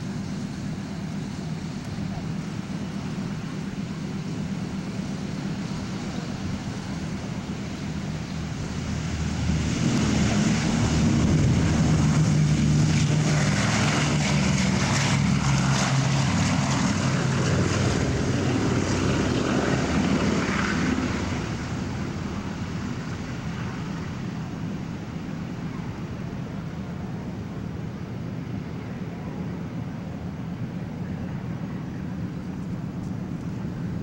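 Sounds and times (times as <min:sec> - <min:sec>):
propeller aircraft engines droning: 0:00.0 - 0:34.0.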